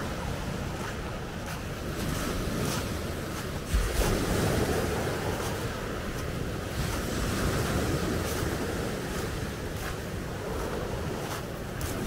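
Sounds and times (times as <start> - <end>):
wind buffeting microphone: 0.0 - 12.0
waves breaking on pebbles: 0.1 - 12.0.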